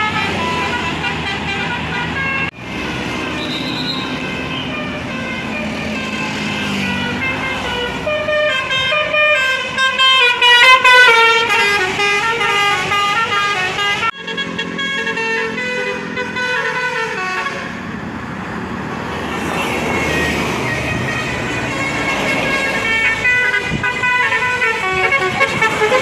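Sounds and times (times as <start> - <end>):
musical bus horn playing a tune: 0.0 - 17.9, 19.7 - 26.0.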